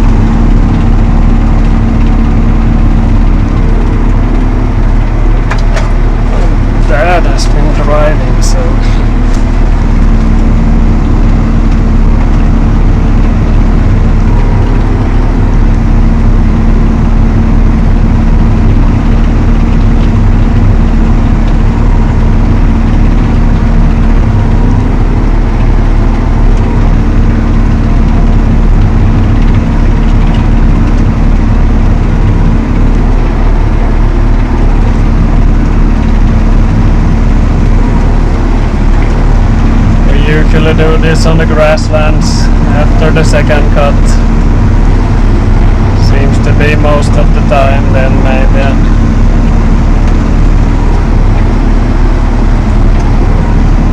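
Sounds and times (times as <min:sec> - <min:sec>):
tractor diesel engine drone: 0:00.0 - 0:53.9.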